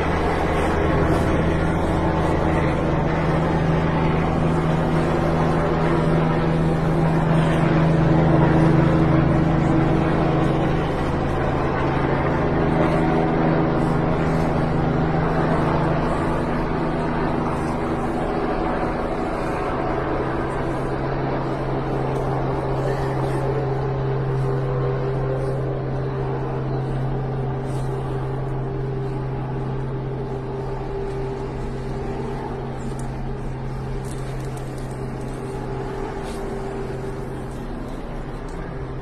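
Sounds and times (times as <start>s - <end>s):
low mechanical hum: 0.0s - 39.0s
outdoor background noise: 0.0s - 39.0s.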